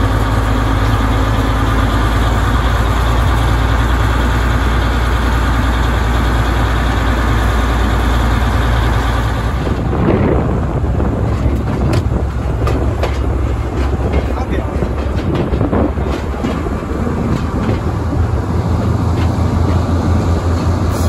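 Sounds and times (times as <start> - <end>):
locomotive engine humming: 0.0 - 21.0
rolling rumble on track: 0.0 - 21.0
wheels clacking: 0.0 - 21.0.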